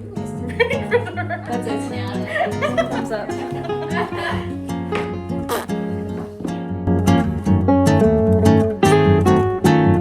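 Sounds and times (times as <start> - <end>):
acoustic guitar strummed chords: 0.0 - 10.0.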